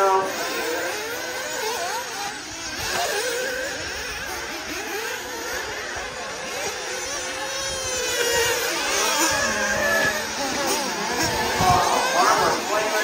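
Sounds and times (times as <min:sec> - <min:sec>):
model buggy engines revving: 0:00.0 - 0:13.0.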